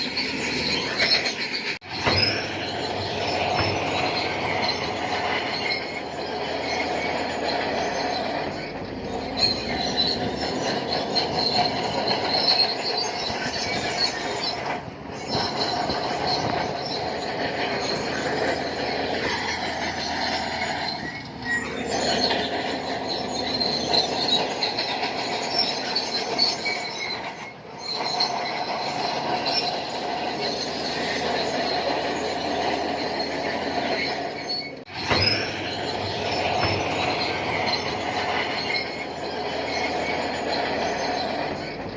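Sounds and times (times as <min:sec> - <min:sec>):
bulldozer running: 0:00.0 - 0:41.9
steel tracks squealing: 0:00.0 - 0:41.9.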